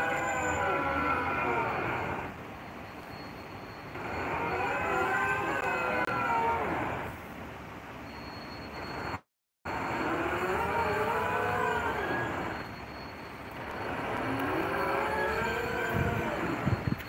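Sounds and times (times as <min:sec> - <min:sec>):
metallic squeals of cradle on rails: 0:00.0 - 0:07.1, 0:08.1 - 0:17.0.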